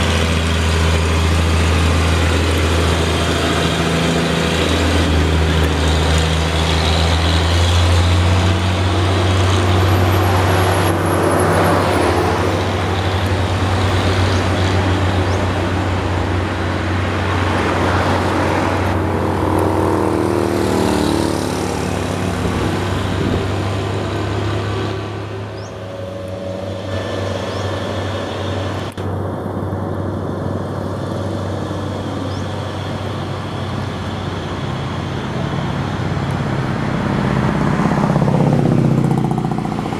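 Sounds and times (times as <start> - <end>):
diesel truck engines: 0.0 - 39.9
traffic noise: 0.0 - 39.9.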